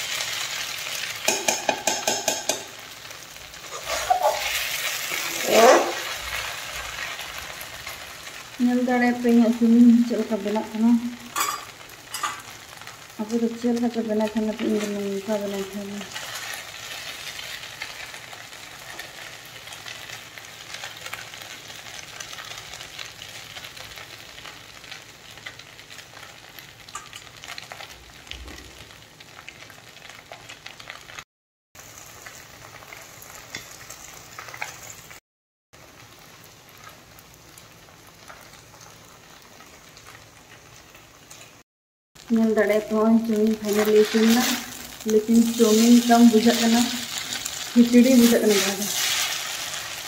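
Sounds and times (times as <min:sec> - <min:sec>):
noodles sizzling in a pan: 0:00.0 - 0:31.2, 0:31.8 - 0:35.2, 0:35.8 - 0:41.6, 0:42.2 - 0:50.0.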